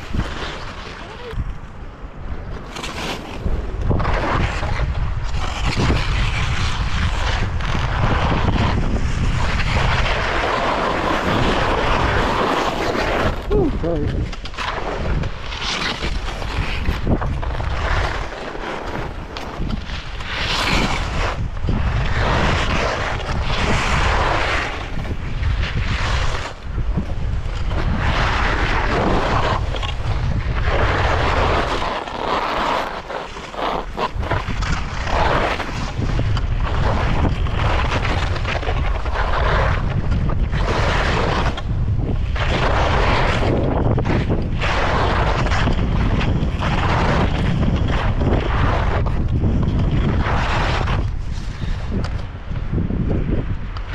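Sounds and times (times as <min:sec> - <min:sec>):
skis scraping on icy snow: 0:00.0 - 0:01.5, 0:02.4 - 0:53.9
wind buffeting microphone: 0:00.0 - 0:02.7, 0:03.3 - 0:32.0, 0:33.8 - 0:53.9.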